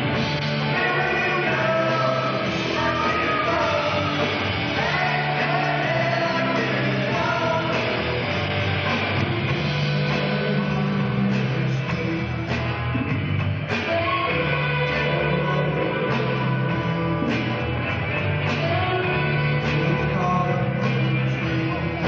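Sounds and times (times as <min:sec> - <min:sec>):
person singing: 0:00.0 - 0:12.6, 0:13.7 - 0:17.6, 0:18.4 - 0:22.0
live rock band playing: 0:00.0 - 0:22.0.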